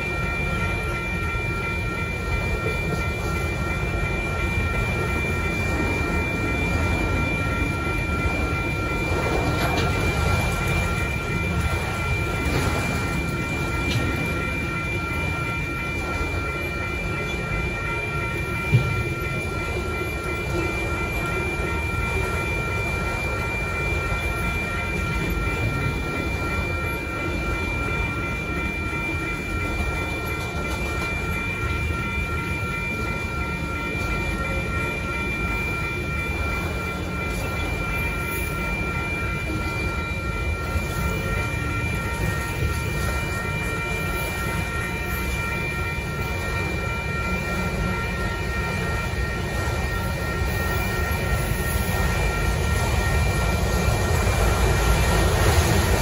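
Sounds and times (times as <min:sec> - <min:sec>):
crossing warning bell ringing: 0:00.0 - 0:56.0
freight train rumbling past: 0:00.0 - 0:56.0.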